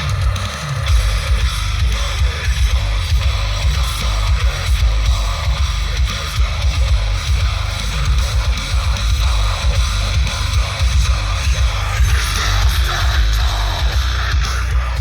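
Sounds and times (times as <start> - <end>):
deep subwoofer bass: 0.0 - 15.0
heavy rock music: 0.0 - 15.0.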